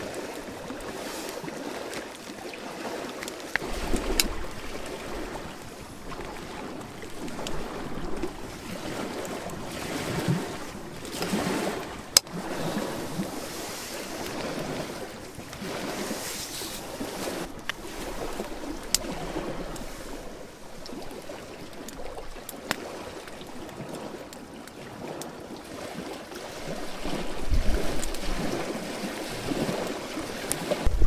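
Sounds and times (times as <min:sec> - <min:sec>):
small waves lapping at shore: 0:00.0 - 0:31.0
wind: 0:00.0 - 0:31.0.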